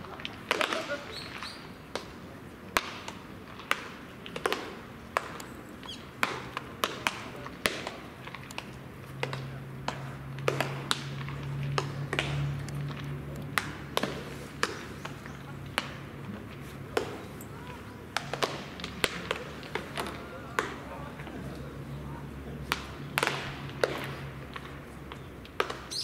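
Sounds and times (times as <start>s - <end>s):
baseballs smacking into gloves: 0.0s - 26.0s.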